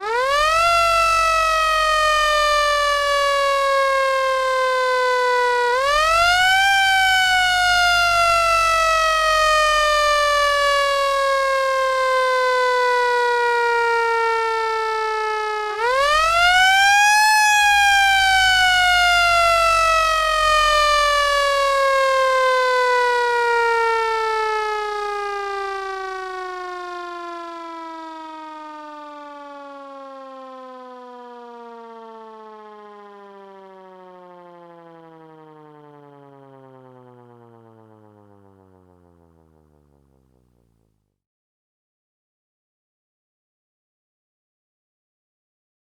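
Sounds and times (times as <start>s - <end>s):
fire engine siren wailing: 0.0s - 40.2s.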